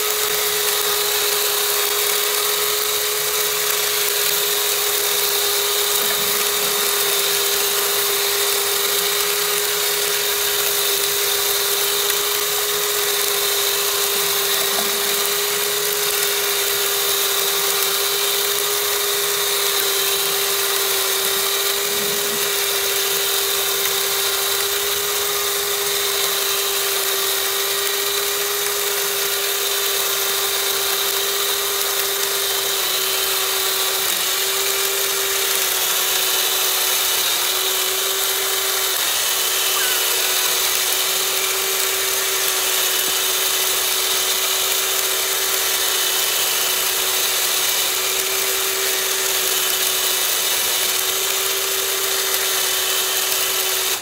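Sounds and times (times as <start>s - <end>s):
toy mixer drum motor whining: 0.0s - 54.0s.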